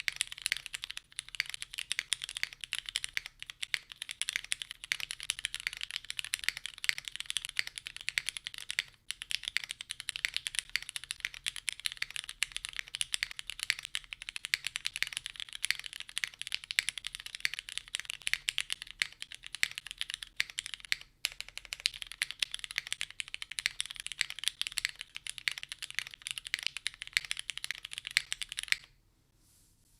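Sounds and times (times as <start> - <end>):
fast mechanical keyboard typing: 0.0 - 28.9.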